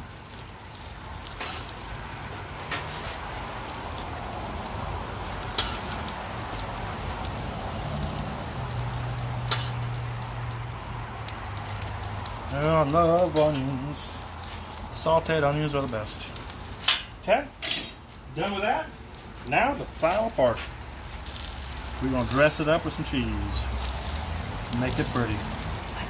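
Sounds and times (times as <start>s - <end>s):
hot dogs sizzling on griddle: 0.0s - 26.0s.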